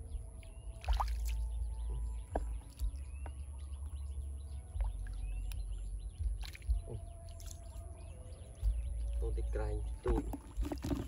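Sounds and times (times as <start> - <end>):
steady low rumble: 0.0 - 10.6
birds chirping: 0.0 - 11.0.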